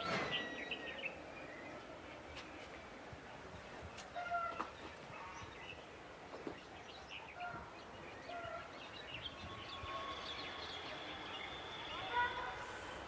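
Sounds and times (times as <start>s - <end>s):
birds chirping: 0.0s - 13.0s
city noise: 0.0s - 13.0s.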